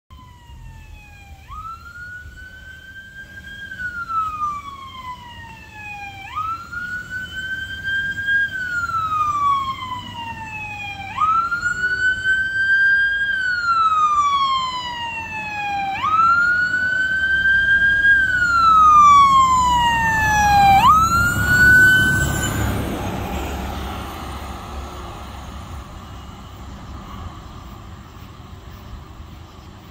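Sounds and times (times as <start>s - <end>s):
fire truck siren wailing: 0.1s - 28.0s
engine and road rumble: 0.1s - 29.9s.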